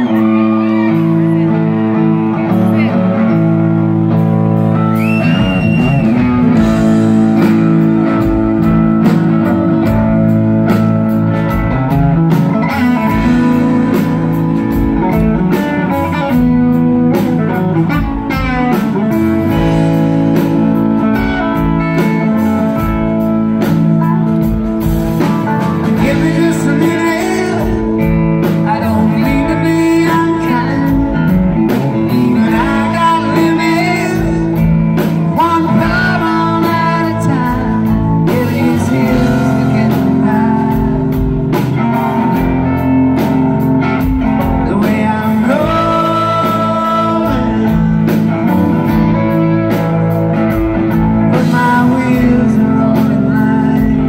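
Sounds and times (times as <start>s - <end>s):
electric guitars: 0.0s - 54.0s
live rock band playing: 0.0s - 54.0s
steady drum beat: 4.2s - 54.0s.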